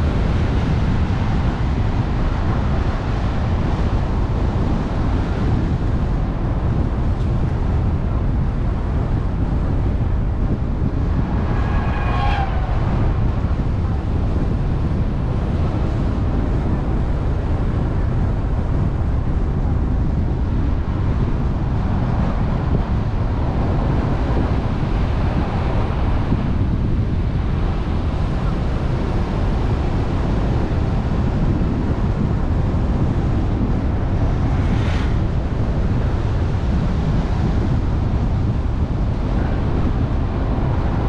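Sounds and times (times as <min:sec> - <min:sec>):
car road noise: 0:00.0 - 0:41.0
wind buffeting microphone: 0:00.0 - 0:41.0.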